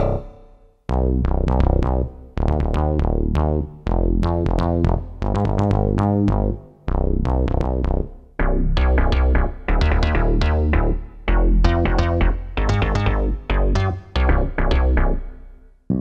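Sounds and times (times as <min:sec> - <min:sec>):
synthesizer bass pattern: 0:00.9 - 0:16.0.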